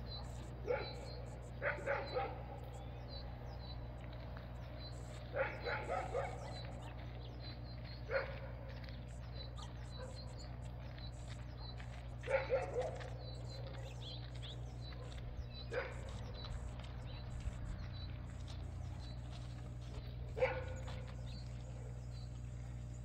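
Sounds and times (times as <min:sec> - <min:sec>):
faint high bird chirps: 0:00.0 - 0:23.0
steady low hum: 0:00.0 - 0:23.0.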